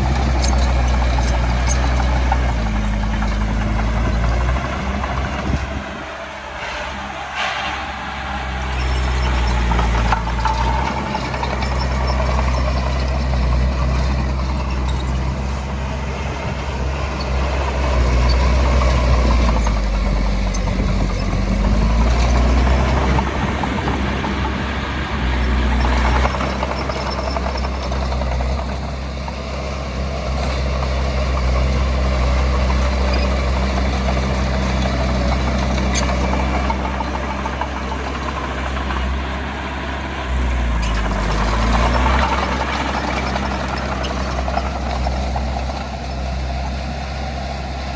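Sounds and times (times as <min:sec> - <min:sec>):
heavy diesel engine working: 0:00.0 - 0:47.9.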